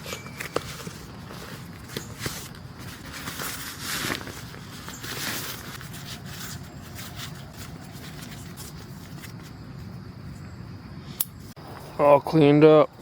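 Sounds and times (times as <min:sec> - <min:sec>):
camping gear rustling and scraping: 0:00.0 - 0:10.5.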